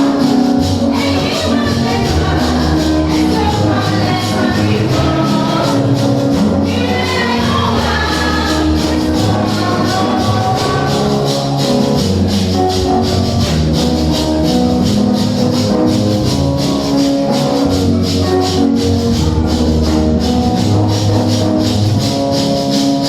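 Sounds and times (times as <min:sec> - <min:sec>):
shaken hand percussion: 0:00.0 - 0:23.0.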